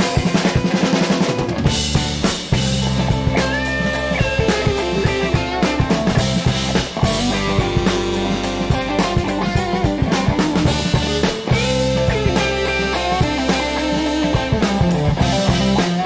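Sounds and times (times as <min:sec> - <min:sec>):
bass guitar: 0:00.0 - 0:16.0
drum kit groove: 0:00.0 - 0:16.0
electric guitar: 0:00.0 - 0:16.0.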